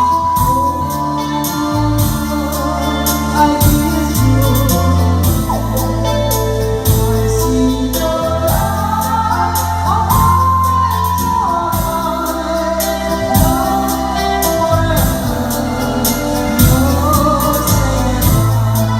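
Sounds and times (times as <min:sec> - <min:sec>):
keyboard drum beat and bass: 0:00.0 - 0:18.9
sliding keyboard lead melody: 0:00.0 - 0:18.9.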